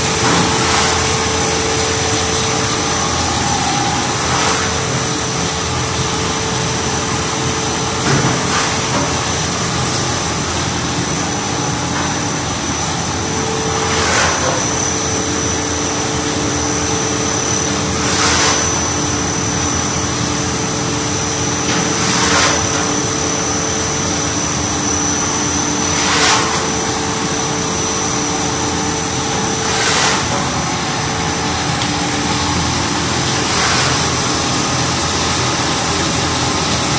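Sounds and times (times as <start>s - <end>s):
machine hum: 0.0s - 36.9s.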